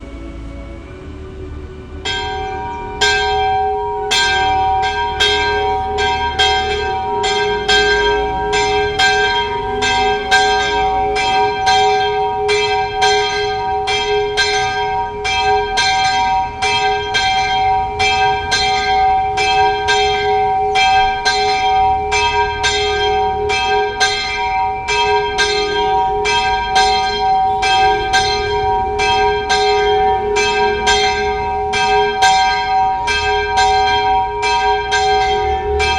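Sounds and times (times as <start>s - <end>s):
church bell ringing: 2.0s - 35.9s.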